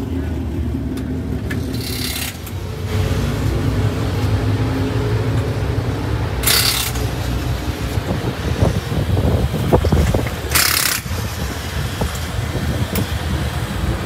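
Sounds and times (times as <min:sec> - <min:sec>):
engines rumbling: 0:00.0 - 0:14.0.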